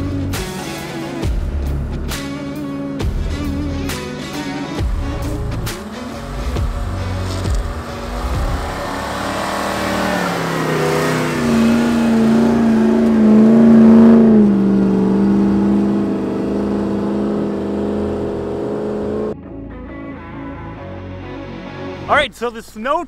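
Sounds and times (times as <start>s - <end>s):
truck engine passing by: 0.0s - 19.4s.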